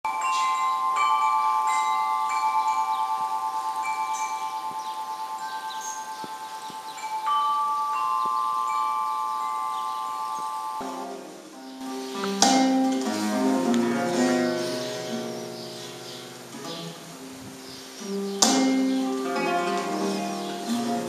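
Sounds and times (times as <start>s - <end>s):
tubular wind chime ringing: 0.1s - 21.0s.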